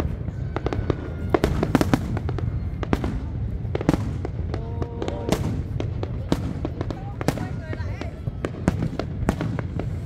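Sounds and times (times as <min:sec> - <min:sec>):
continuous low rumble: 0:00.0 - 0:10.0
fireworks bangs: 0:00.0 - 0:10.0.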